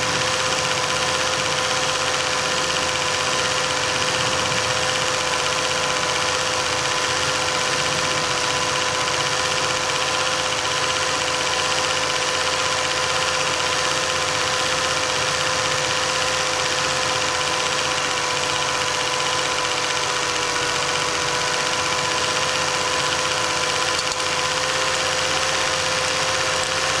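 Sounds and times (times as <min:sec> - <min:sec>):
film projector whirring: 0:00.0 - 0:27.0.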